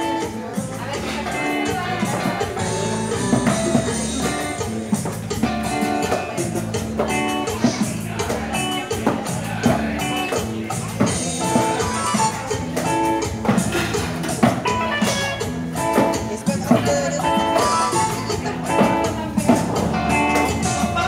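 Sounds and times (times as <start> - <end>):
band song with guitar and beat: 0.0 - 21.0.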